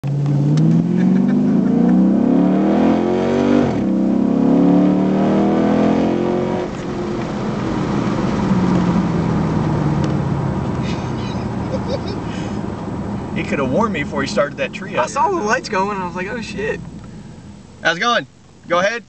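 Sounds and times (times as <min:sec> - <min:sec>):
car engine at full throttle: 0:00.0 - 0:18.8.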